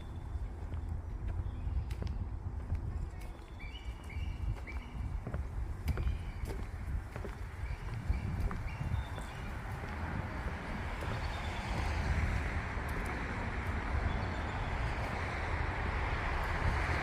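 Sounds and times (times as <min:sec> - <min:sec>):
highway traffic noise: 0:00.0 - 0:17.0.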